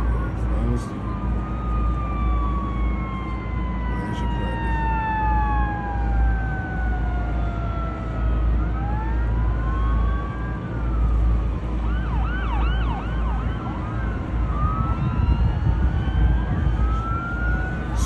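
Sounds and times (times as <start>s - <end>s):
wailing sirens: 0.0s - 18.0s
yelping siren: 0.1s - 18.0s.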